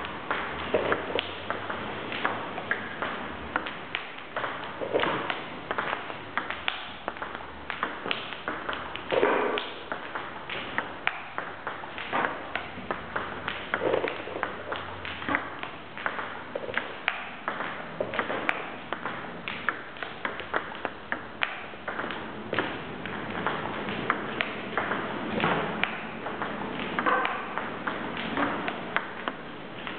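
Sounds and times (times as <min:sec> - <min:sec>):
table tennis ball clicks: 0:00.3 - 0:29.9.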